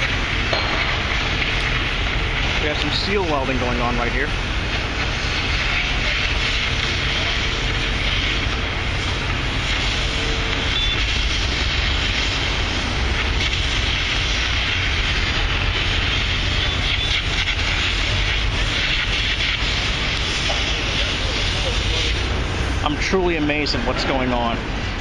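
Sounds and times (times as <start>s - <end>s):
site machinery: 0.0s - 25.0s.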